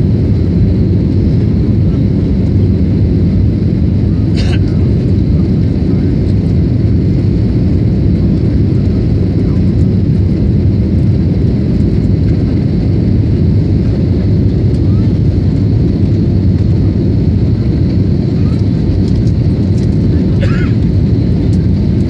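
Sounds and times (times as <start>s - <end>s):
airplane cabin roar: 0.0s - 22.0s.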